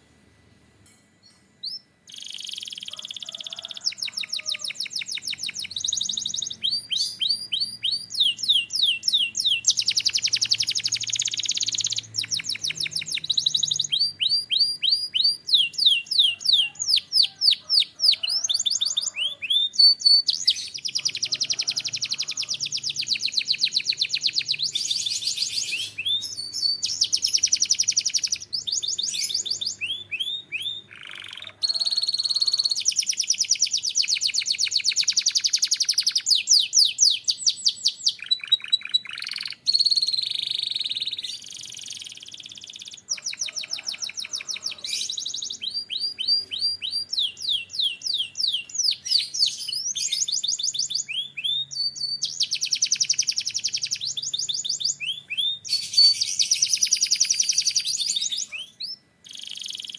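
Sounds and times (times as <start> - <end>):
canary singing rapid trills: 1.6 - 59.9.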